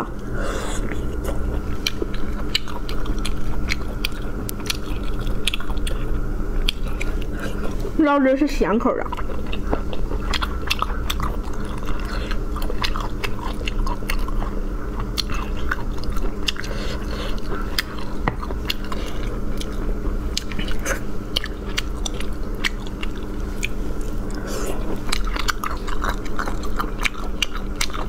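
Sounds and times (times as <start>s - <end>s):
chewing and biting: 0.0s - 8.0s, 9.0s - 28.0s.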